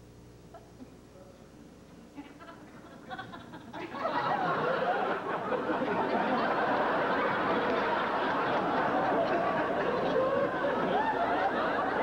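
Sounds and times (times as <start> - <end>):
audience laughter: 2.2 - 12.0.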